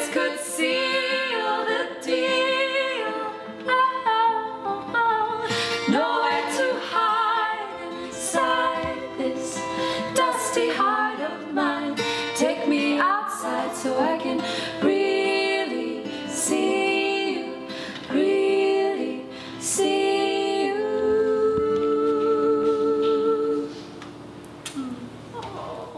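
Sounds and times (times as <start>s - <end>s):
women singing in harmony: 0.0s - 24.0s
acoustic guitar: 0.0s - 25.9s.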